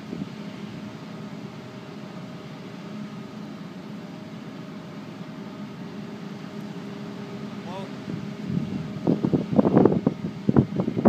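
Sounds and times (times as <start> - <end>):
faint constant drone: 0.0 - 11.0
steady mechanical hum: 0.0 - 11.0.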